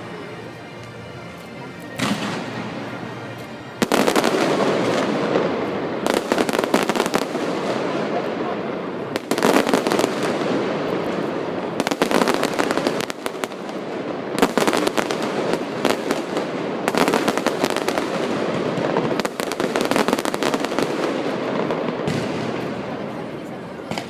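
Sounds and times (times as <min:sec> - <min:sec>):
firework crackling: 0:02.0 - 0:24.0.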